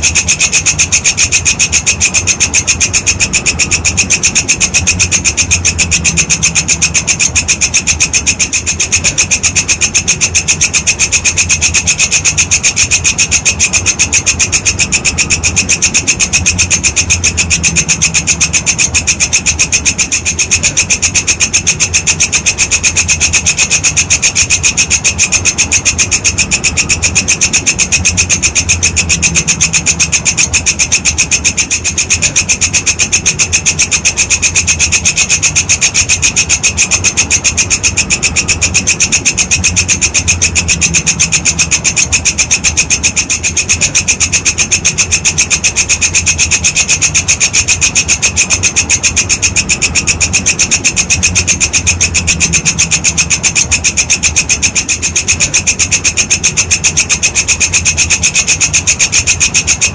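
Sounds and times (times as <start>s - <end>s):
grasshopper rasping trill: 0.0s - 59.9s.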